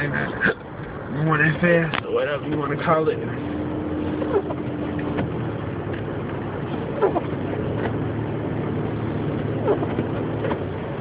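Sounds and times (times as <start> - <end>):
car engine and tyre drone: 0.0 - 11.0.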